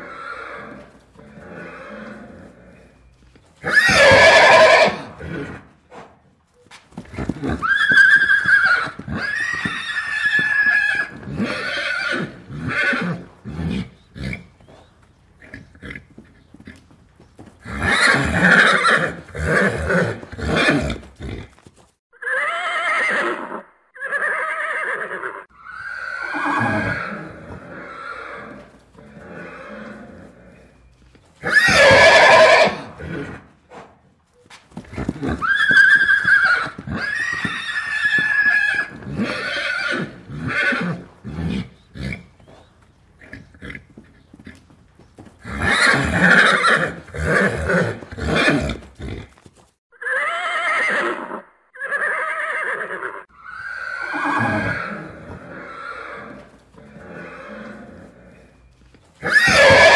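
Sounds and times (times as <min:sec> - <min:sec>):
horses neighing and whinnying: 0:00.0 - 0:06.3, 0:06.9 - 0:34.1, 0:34.7 - 0:59.9.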